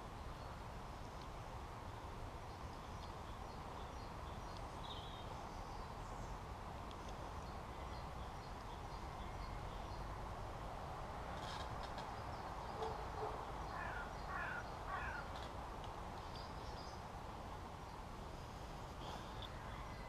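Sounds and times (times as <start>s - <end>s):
small birds chirping: 0.2s - 10.2s, 11.3s - 18.2s.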